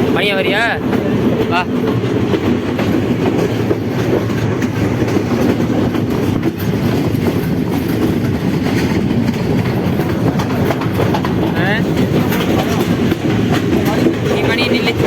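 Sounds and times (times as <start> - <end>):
train carriage rumble: 0.0 - 15.0
wheels clicking over rails: 0.0 - 15.0.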